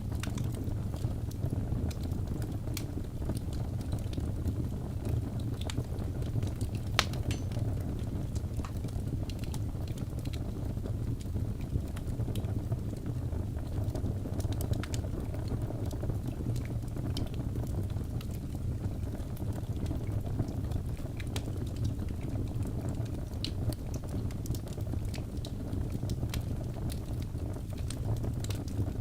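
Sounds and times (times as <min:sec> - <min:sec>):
fire crackles and pops: 0:00.0 - 0:29.0
low rumble of flames: 0:00.0 - 0:29.0.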